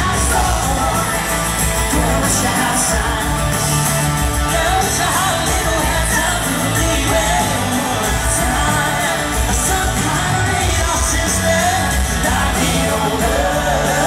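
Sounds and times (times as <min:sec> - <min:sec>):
bass guitar: 0:00.0 - 0:14.0
drums: 0:00.0 - 0:14.0
man singing: 0:00.0 - 0:14.0
strummed acoustic guitar: 0:00.0 - 0:14.0.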